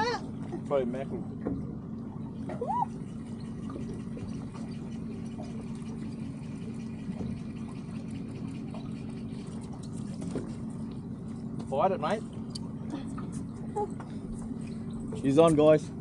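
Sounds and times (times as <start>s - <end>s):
steady low hum: 0.0s - 16.0s
water lapping against boat hull: 0.0s - 16.0s.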